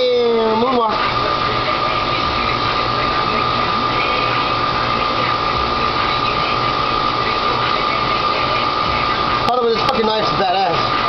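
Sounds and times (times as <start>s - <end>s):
machine droning with high whine: 0.0s - 11.0s.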